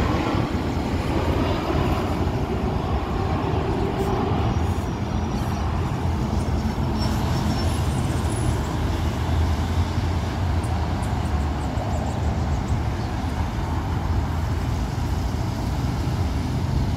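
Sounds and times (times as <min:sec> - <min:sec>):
airliner jet engines rumbling: 0:00.0 - 0:16.9.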